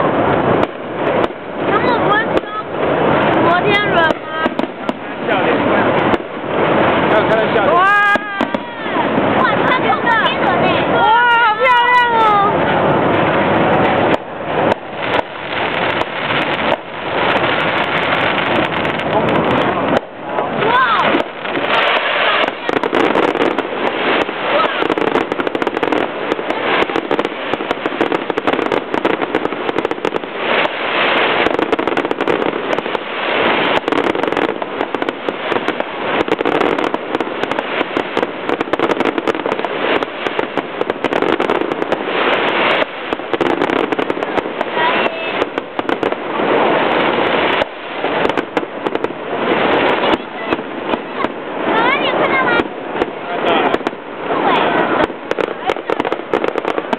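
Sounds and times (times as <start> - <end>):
fireworks bangs and crackling: 0.0 - 56.9.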